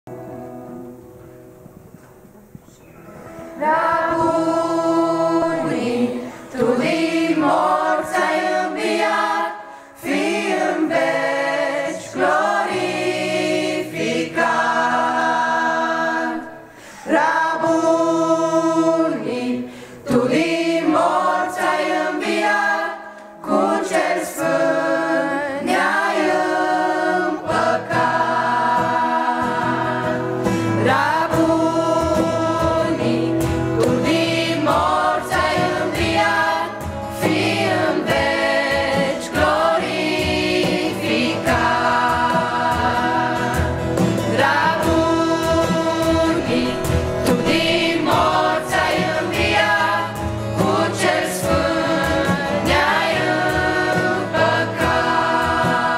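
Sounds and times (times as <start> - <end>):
church choir singing a hymn: 3.4 - 55.9.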